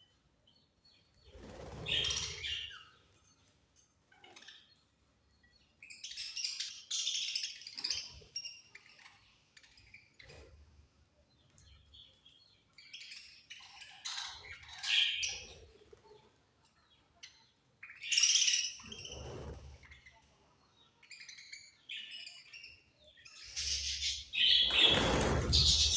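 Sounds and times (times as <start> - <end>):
budgies chirping: 1.0 - 3.0, 5.5 - 10.7, 11.3 - 25.9.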